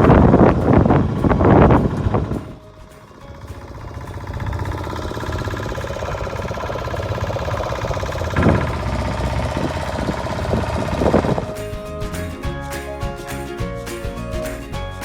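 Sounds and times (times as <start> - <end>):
motorboat engine chugging: 0.0 - 15.0.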